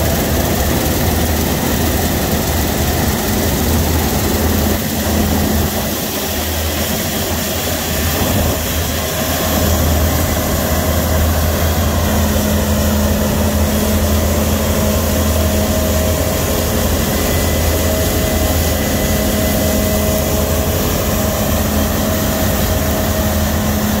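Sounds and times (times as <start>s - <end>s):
combine harvester engine drone: 0.0s - 24.0s.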